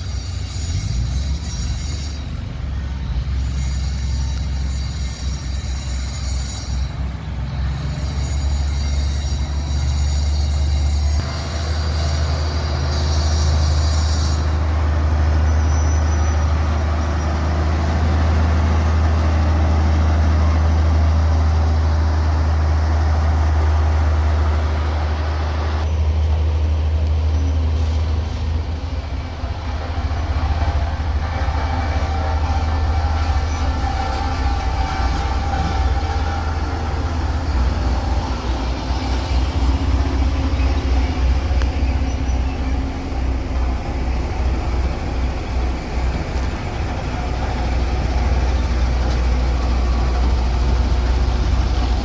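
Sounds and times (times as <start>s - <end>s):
heavy diesel machinery droning: 0.0s - 52.0s.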